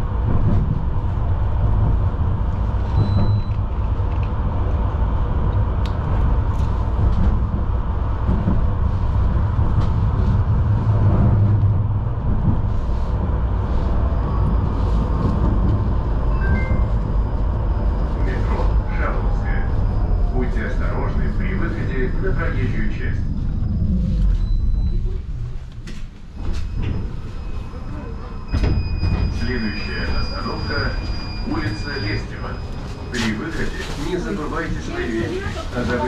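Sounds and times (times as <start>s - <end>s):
tram wheels rumbling on rails: 0.0s - 36.0s.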